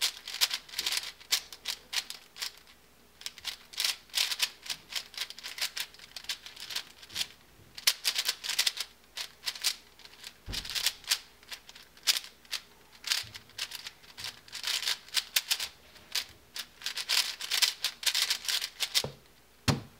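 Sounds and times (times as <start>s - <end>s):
plastic cube layers clacking: 0.0s - 19.2s.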